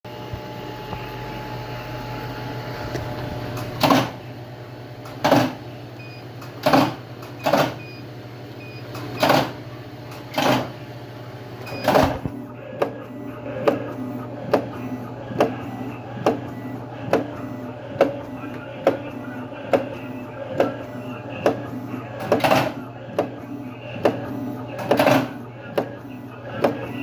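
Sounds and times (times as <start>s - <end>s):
machine humming: 0.1s - 27.0s.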